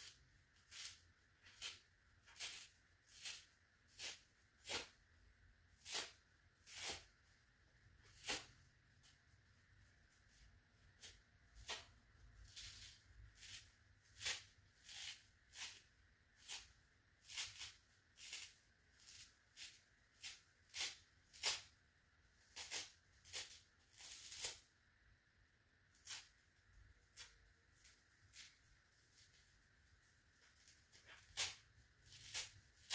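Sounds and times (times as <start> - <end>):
sponge tearing crackles: 0.0 - 5.0, 5.7 - 7.3, 7.9 - 9.2, 10.2 - 24.7, 25.9 - 32.9.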